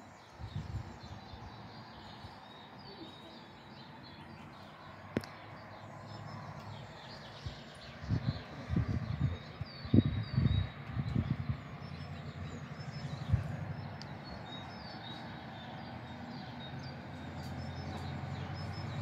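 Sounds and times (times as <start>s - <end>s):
distant traffic rumble: 0.0s - 19.0s
small birds chirping: 0.0s - 19.0s.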